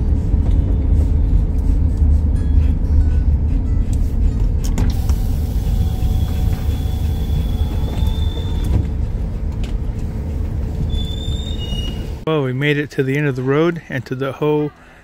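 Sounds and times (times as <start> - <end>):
road rumble inside vehicle: 0.0 - 12.3.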